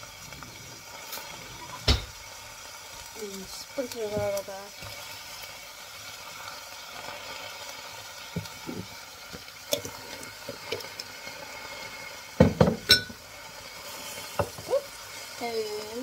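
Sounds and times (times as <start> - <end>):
pot hissing on gas burner: 0.0 - 16.0.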